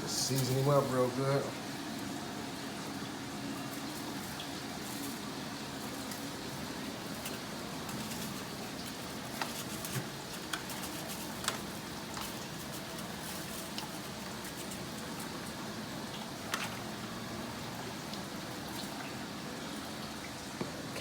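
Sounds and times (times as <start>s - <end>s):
seasoning sprinkling hiss: 0.0s - 20.9s.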